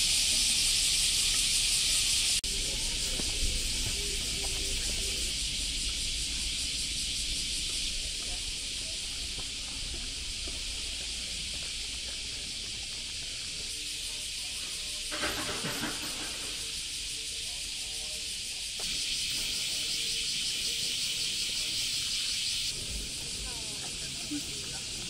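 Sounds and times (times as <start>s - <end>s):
cicada chorus: 0.0s - 25.0s.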